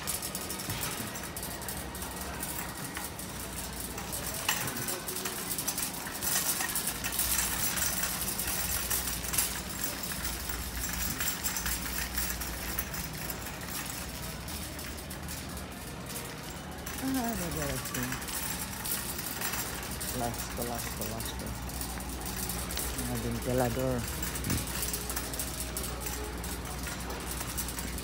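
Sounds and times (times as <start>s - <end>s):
clatter of small clicks and rattles: 0.0s - 28.0s.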